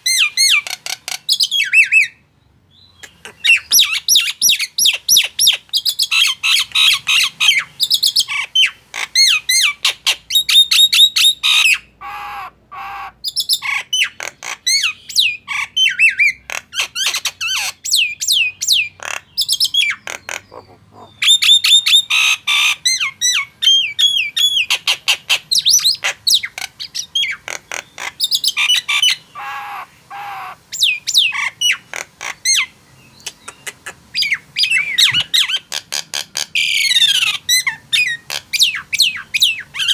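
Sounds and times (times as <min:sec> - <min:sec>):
starling whistling song: 0:00.0 - 0:02.2, 0:02.8 - 0:11.9, 0:13.2 - 0:20.2, 0:21.0 - 0:27.4, 0:30.7 - 0:31.8, 0:32.5 - 0:35.7, 0:36.6 - 0:39.9
harsh bird calls: 0:00.0 - 0:39.9.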